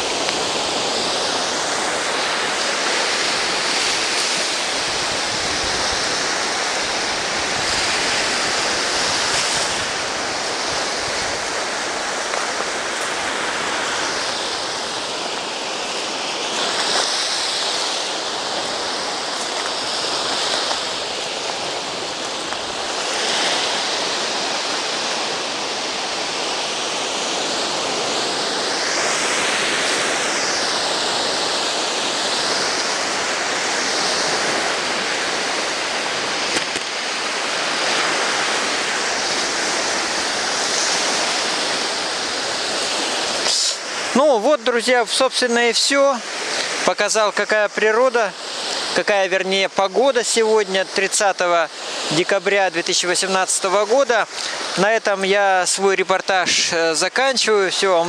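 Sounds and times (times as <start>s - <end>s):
surf breaking on beach: 0.0s - 58.0s.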